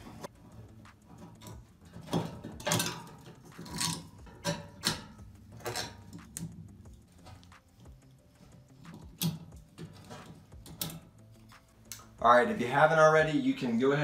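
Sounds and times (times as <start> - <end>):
screwdriver metallic clicks and scrapes: 0.0 - 12.2.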